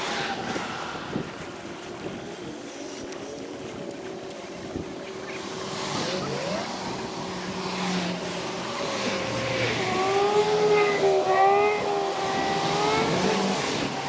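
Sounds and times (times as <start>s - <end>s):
wind and water hiss: 0.0s - 14.0s.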